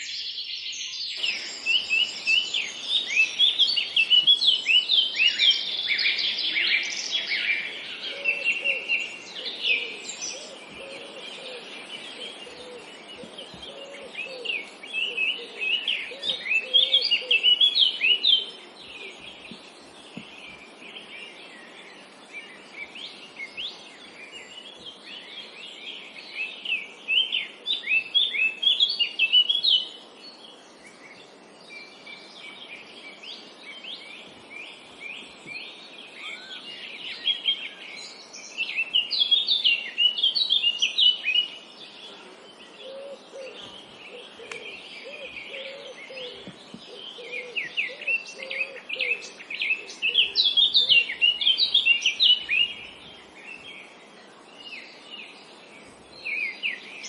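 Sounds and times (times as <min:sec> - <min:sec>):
background hiss: 0:00.0 - 0:57.0
songbirds twittering: 0:00.0 - 0:57.0.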